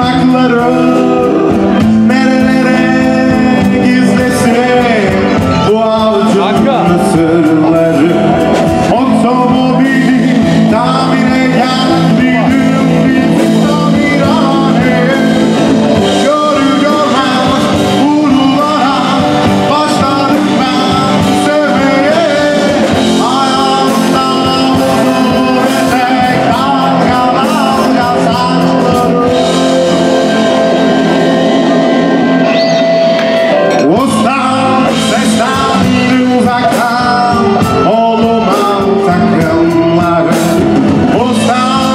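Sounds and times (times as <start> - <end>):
live rock band playing: 0.0 - 41.9
person singing: 0.0 - 41.9.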